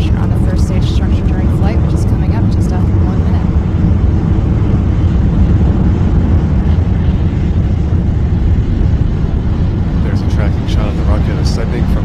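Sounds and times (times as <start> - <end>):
rocket engines rumbling: 0.0 - 12.0.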